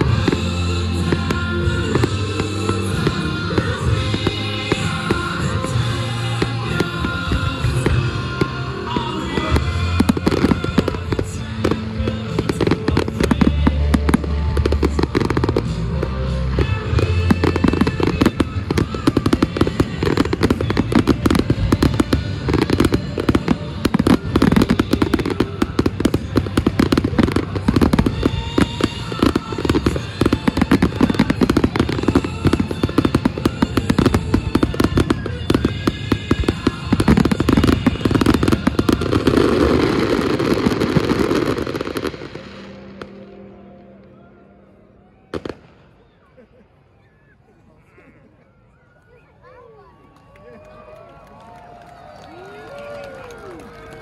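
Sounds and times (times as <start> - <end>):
fireworks bangs and crackles: 0.0 - 43.5, 45.3 - 46.0
music soundtrack: 0.0 - 46.4.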